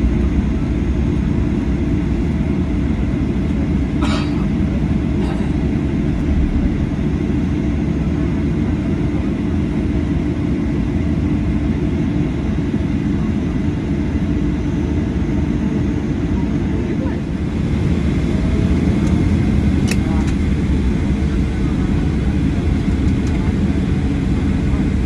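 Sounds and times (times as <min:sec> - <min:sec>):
aircraft cabin engine rumble: 0:00.0 - 0:25.0.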